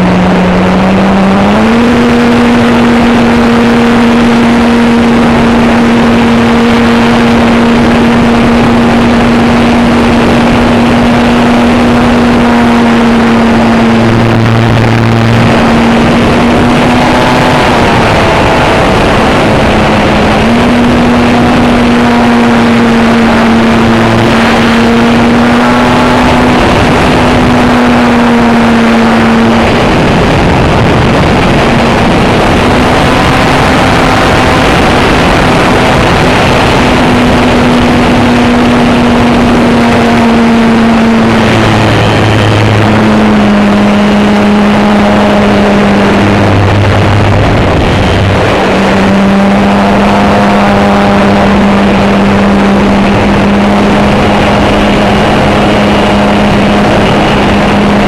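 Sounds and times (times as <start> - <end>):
model airplane engine drone: 0.0 - 58.0
wind noise on microphone: 0.0 - 58.0.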